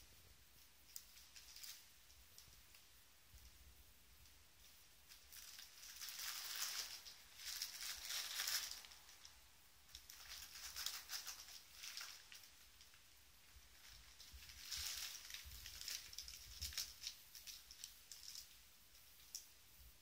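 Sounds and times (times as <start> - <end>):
bubble wrap crinkling: 0.0 - 3.6, 4.2 - 19.6.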